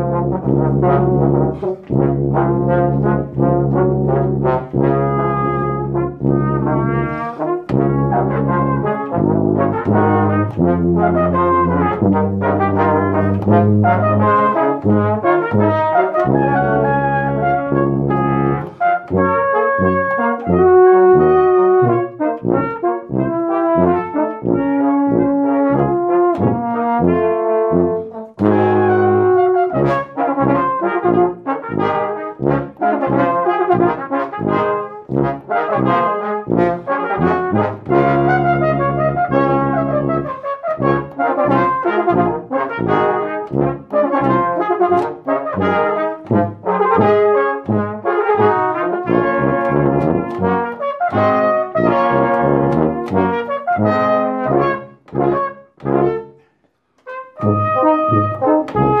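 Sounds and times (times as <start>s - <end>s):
brass ensemble playing: 0.0s - 59.0s.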